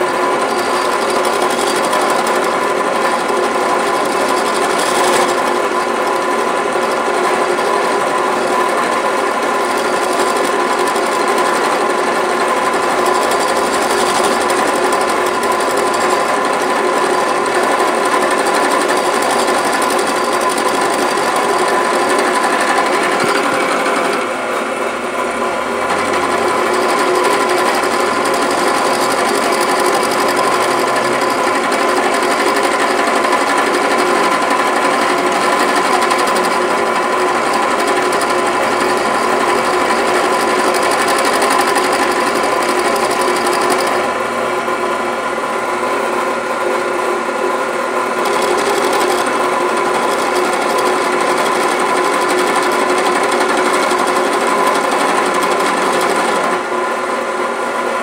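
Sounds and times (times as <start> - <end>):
drill press motor hum: 0.0 - 58.0
end mill cutting steel: 0.0 - 58.0.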